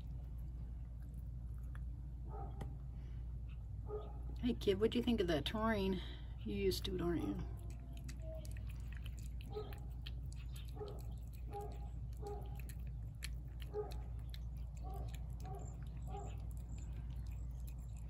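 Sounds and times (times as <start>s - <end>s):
cat chewing and lapping food: 0.0s - 4.5s, 6.0s - 18.0s.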